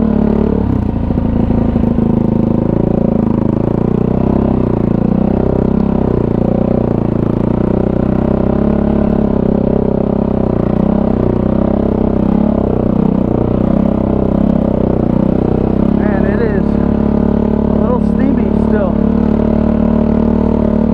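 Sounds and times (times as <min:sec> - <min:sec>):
atv engine running: 0:00.0 - 0:20.9.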